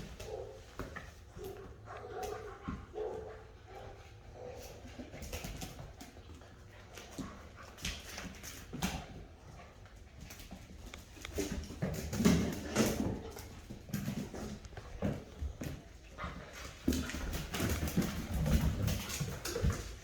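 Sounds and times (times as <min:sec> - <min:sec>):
knocks and scuffles of play: 0:00.0 - 0:20.0.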